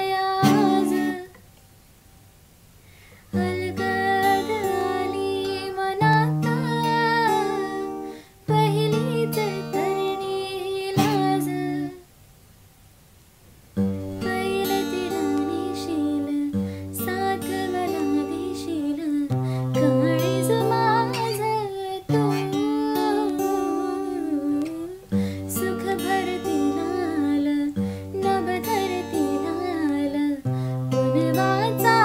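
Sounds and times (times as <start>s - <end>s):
strummed acoustic guitar: 0.0s - 1.4s, 3.3s - 12.0s, 13.8s - 32.0s
woman singing: 0.0s - 1.4s, 3.3s - 12.1s, 14.0s - 32.0s.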